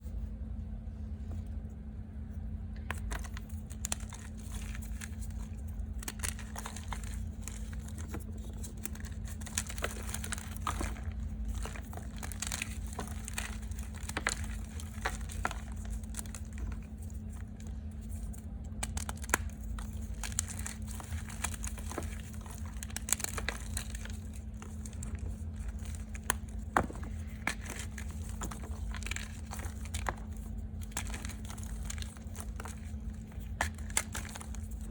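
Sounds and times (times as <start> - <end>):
steady low hum: 0.0 - 34.9
chalk crunching and crumbling: 2.8 - 34.9.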